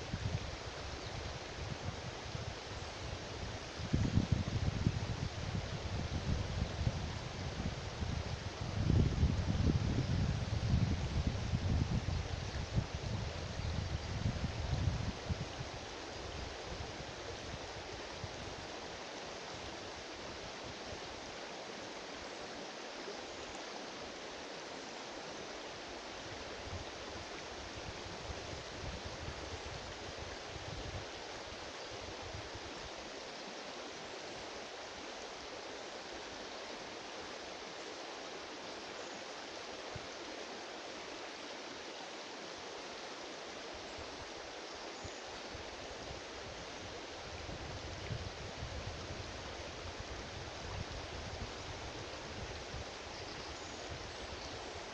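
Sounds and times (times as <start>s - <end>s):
river water flowing: 0.0s - 54.9s.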